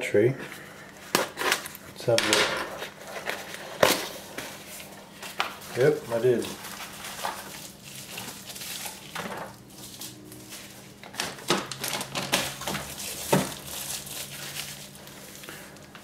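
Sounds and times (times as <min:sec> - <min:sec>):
packaging rustling: 0:01.0 - 0:16.0.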